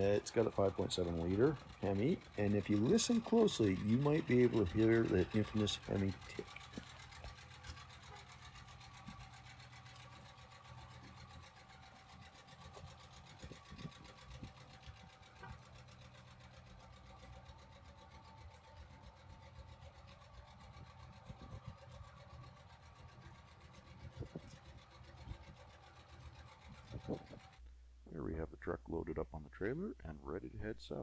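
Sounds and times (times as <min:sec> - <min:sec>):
engine idling with ticking: 0:00.0 - 0:27.6.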